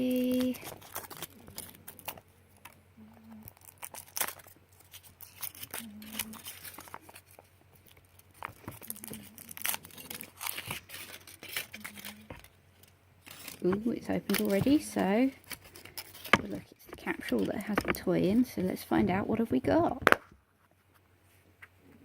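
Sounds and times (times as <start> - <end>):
foil wrapper crinkling: 0.0 - 20.8.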